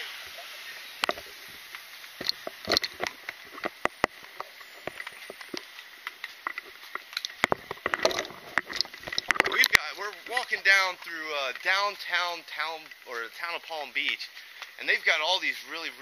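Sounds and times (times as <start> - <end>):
footsteps walking: 0.0 - 15.5
low steady hiss: 0.0 - 16.0
light clicks and taps of gear: 1.0 - 14.8.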